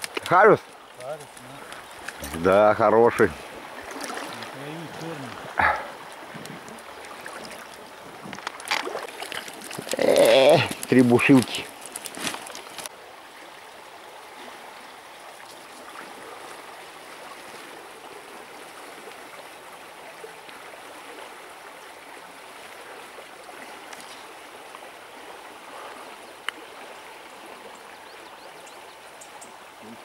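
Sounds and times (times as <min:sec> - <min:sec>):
river flowing over stones: 0:00.0 - 0:30.0.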